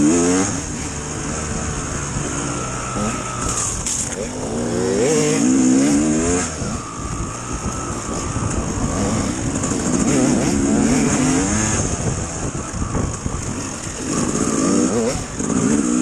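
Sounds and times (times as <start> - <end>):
dirt bike engine revving: 0.0 - 16.0
wind rumble: 0.0 - 16.0.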